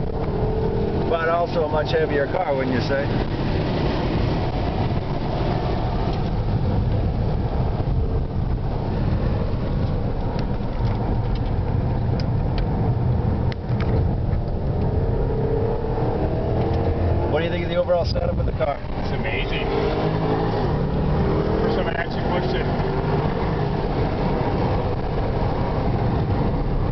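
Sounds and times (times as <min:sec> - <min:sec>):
car engine drone: 0:00.0 - 0:26.9
road and tyre noise: 0:00.0 - 0:26.9.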